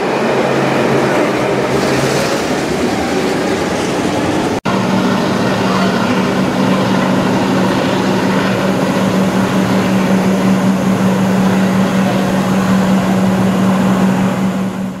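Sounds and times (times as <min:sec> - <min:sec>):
electric train equipment droning: 0:00.0 - 0:15.0.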